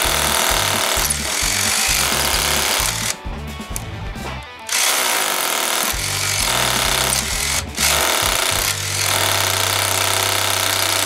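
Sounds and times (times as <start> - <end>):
hammer drill boring into brick: 0.0 - 3.2, 4.7 - 11.0.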